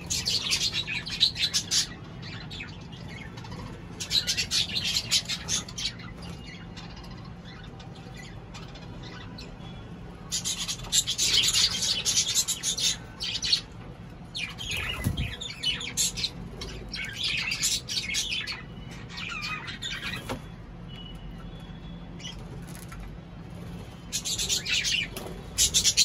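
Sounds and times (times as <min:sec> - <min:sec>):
cockatiels calling: 0:00.0 - 0:09.5, 0:10.3 - 0:13.7, 0:14.4 - 0:20.6, 0:24.1 - 0:26.0.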